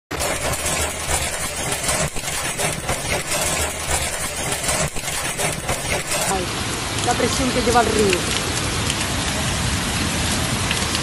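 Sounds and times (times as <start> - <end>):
heavy rain on windscreen: 0.1 - 11.0.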